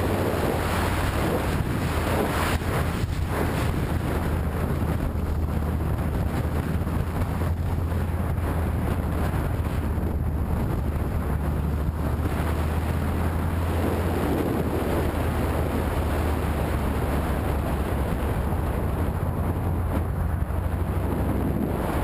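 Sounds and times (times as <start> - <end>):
motorcycle engine running: 0.0 - 21.9
wind noise on microphone: 0.0 - 22.0.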